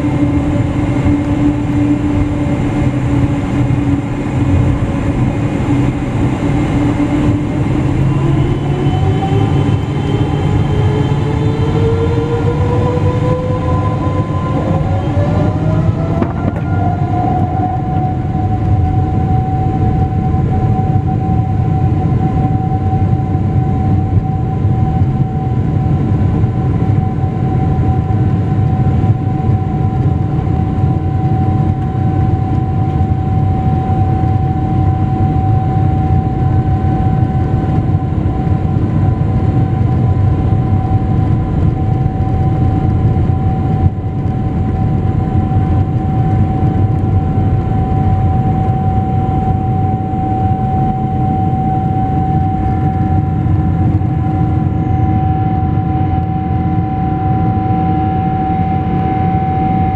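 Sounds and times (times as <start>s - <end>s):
jet engine rumble and whine: 0.0s - 59.9s.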